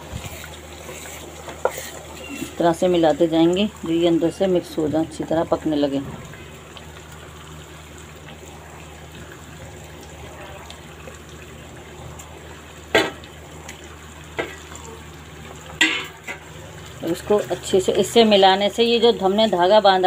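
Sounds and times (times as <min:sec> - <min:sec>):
gravy bubbling in a pan: 0:00.0 - 0:20.0.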